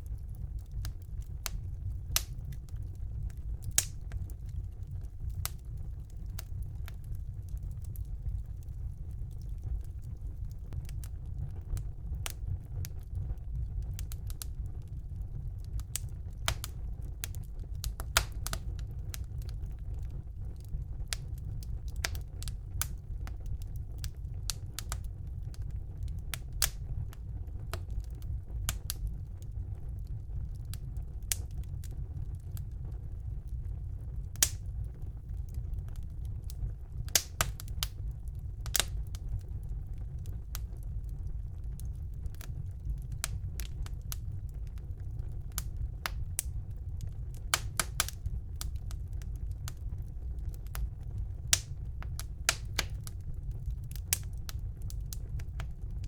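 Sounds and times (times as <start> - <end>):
fire low rumble: 0.0 - 56.0
wood fire crackling and popping: 0.0 - 56.0.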